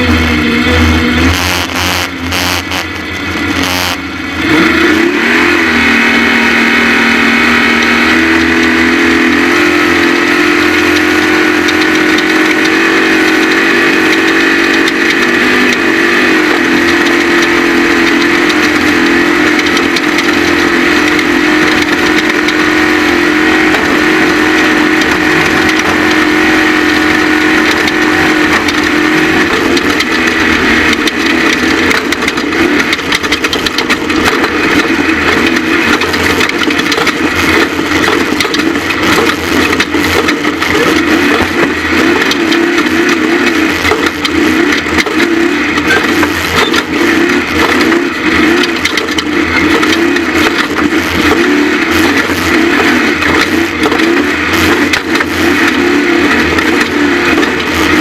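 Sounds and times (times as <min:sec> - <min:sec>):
race vehicle engine at high revs: 0:00.0 - 0:58.0.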